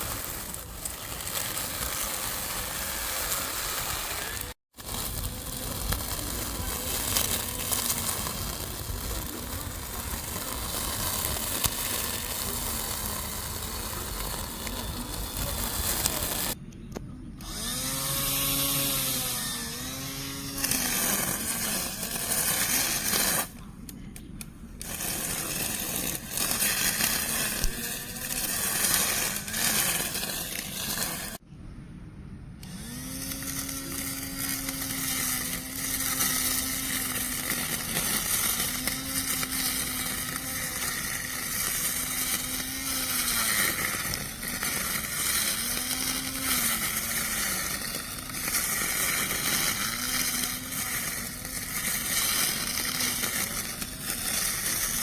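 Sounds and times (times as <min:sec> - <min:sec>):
lawn mower motor whirring: 0:00.0 - 0:16.6, 0:17.4 - 0:31.4, 0:32.6 - 0:55.0.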